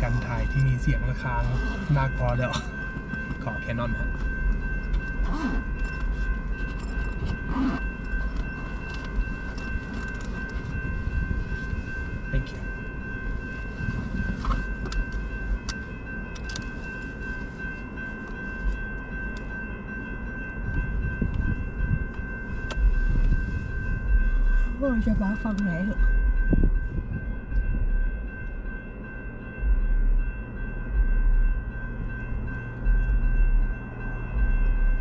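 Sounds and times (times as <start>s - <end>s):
low rumble: 0.0s - 35.0s
railroad crossing bell ringing: 0.0s - 35.0s.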